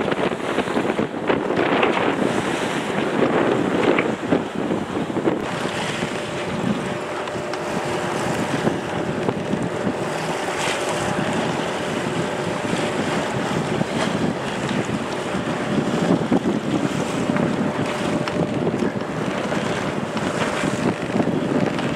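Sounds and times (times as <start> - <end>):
rush of waves and water: 0.0 - 21.9
wind buffeting microphone: 0.0 - 21.9.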